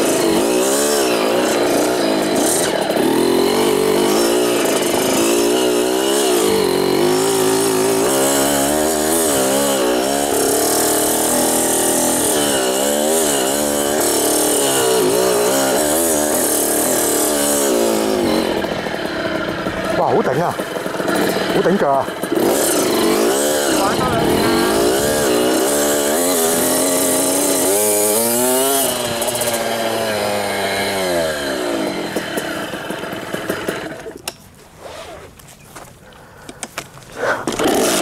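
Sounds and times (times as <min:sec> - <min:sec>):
dirt bike engine revving: 0:00.0 - 0:35.3, 0:37.2 - 0:38.0.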